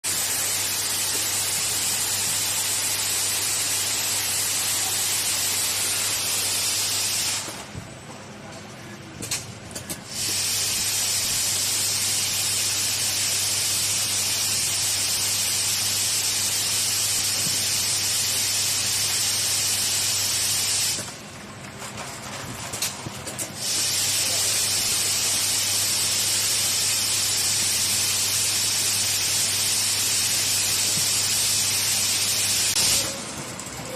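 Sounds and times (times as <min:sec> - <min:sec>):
machine hiss: 0:00.0 - 0:07.7, 0:10.0 - 0:21.2, 0:23.3 - 0:33.3.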